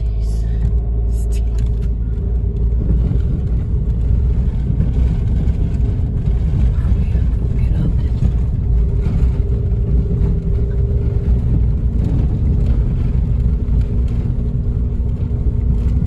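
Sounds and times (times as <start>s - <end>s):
car engine hum: 0.0s - 16.0s
tyres rumbling over cobblestones: 0.0s - 16.0s.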